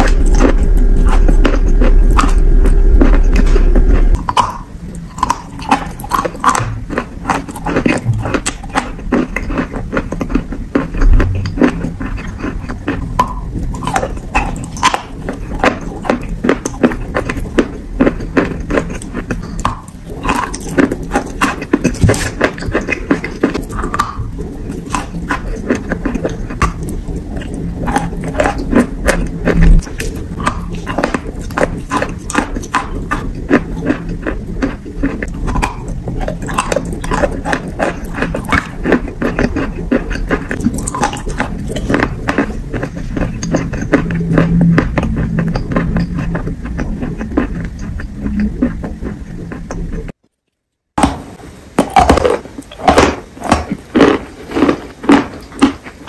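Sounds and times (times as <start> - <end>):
mouth clicks: 0.0 - 50.1
chewing and crunching chalk: 0.0 - 56.0.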